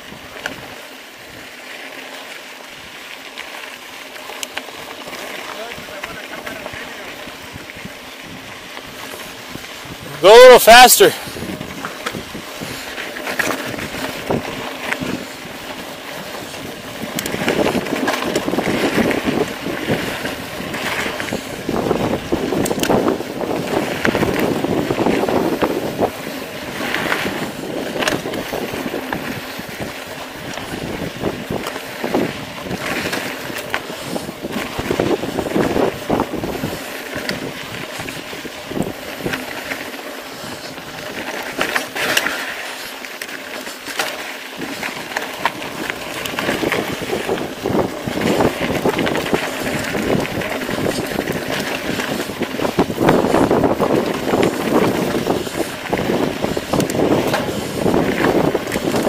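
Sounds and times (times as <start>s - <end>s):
bike clicks and rattles: 0.0s - 10.2s, 11.2s - 59.0s
tyres crunching on gravel: 0.0s - 59.0s
wind rushing over microphone: 5.7s - 42.0s, 44.5s - 59.0s.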